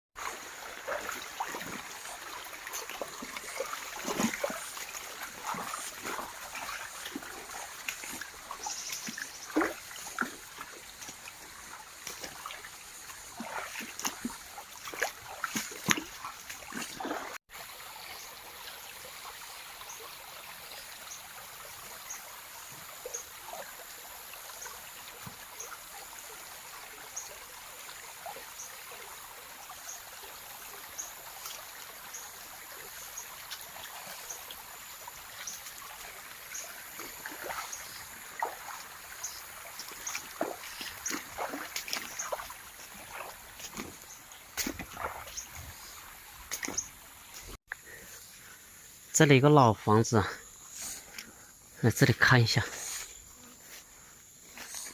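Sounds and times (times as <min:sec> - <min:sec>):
water trickling: 0:00.2 - 0:52.7.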